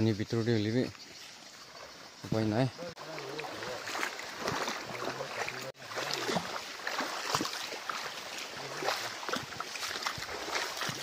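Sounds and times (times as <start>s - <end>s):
stream water splashing: 0.0s - 11.0s.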